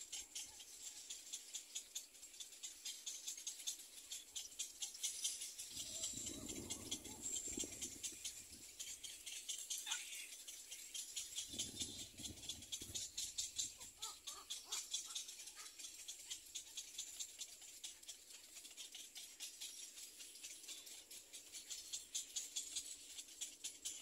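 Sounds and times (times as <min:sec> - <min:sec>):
chicks ticking chatter: 0:00.0 - 0:24.0.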